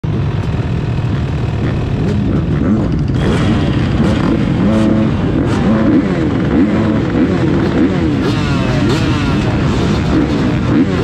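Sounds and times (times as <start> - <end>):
motorbikes idling and revving: 0.0 - 11.0.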